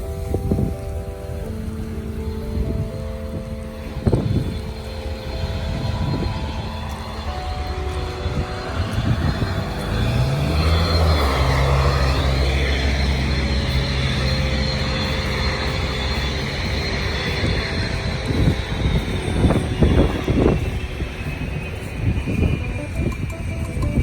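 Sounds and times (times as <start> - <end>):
low engine hum: 0.0 - 24.0
steady rushing noise: 0.0 - 24.0.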